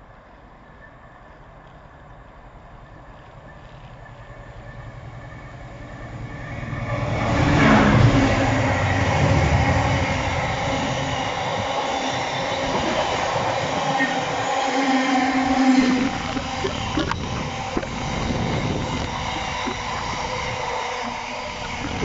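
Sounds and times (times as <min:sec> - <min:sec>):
diesel train passing: 0:00.0 - 0:22.0
rail noise: 0:00.0 - 0:22.0.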